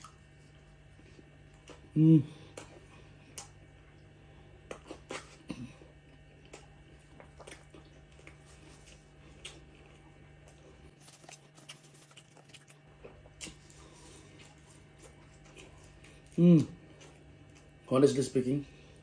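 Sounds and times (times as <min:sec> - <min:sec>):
chewing with wet smacks: 0:00.0 - 0:17.9
faint steady hum: 0:00.0 - 0:19.0.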